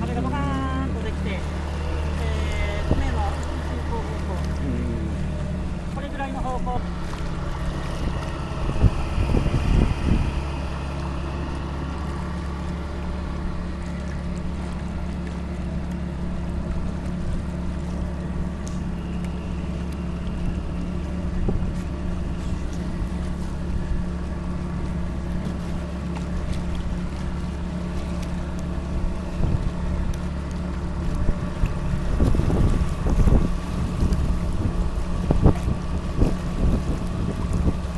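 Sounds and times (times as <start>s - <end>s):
boat engine running: 0.0s - 37.9s
water noise: 0.0s - 37.9s
wind: 0.0s - 37.9s.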